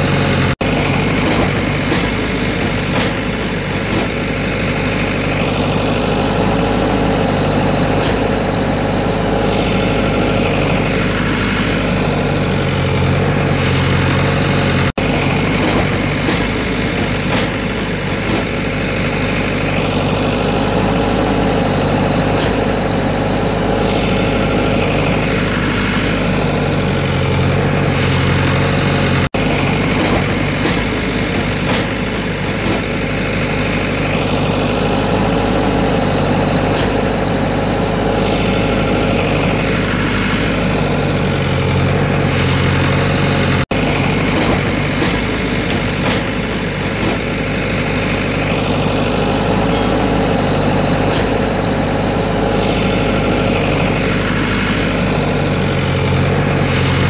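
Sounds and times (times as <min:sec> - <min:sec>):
heavy machine engine idling: 0:00.0 - 0:57.0.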